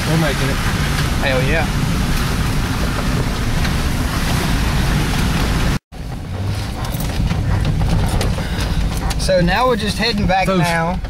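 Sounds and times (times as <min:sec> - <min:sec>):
rushing wind noise: 0:00.0 - 0:10.5
truck engine and road rumble: 0:00.0 - 0:11.0
knocks and rattles: 0:01.8 - 0:11.0.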